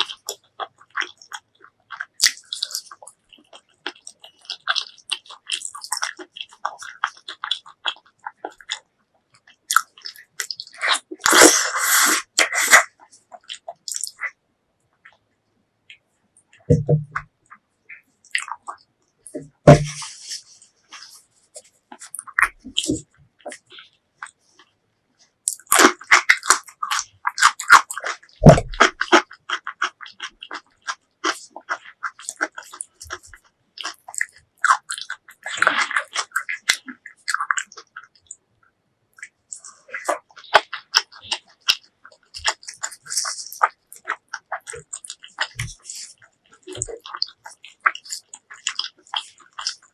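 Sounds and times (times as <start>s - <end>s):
chewing and lip-smacking: 0.0s - 15.3s, 15.9s - 49.9s.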